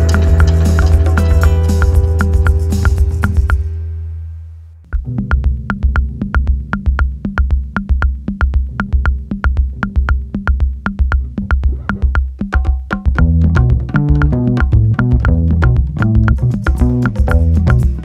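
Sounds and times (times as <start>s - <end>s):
electronic music with drum-machine beat: 0.0s - 3.7s, 5.0s - 18.0s.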